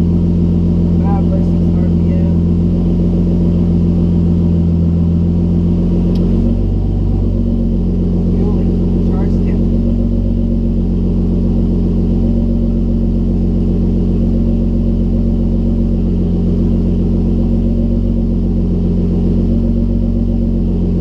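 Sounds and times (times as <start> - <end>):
car engine running steadily: 0.0 - 21.0.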